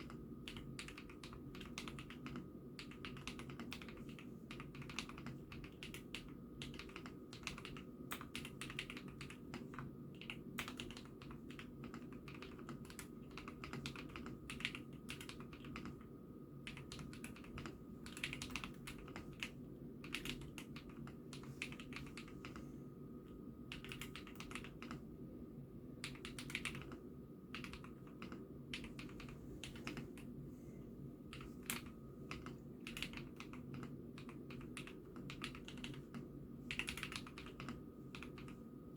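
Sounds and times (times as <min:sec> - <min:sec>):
mechanical keyboard typing: 0:00.0 - 0:16.1, 0:16.7 - 0:22.6, 0:23.7 - 0:25.0, 0:26.0 - 0:30.3, 0:31.3 - 0:38.6
steady low hum: 0:00.0 - 0:38.9.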